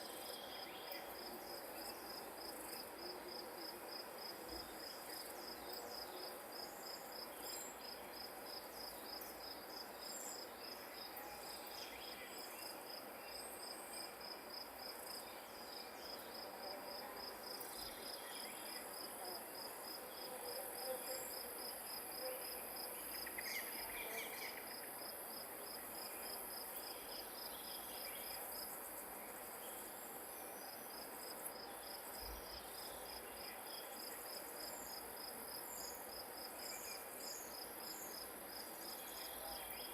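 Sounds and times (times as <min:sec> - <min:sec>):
soft outdoor hiss: 0:00.0 - 0:39.9.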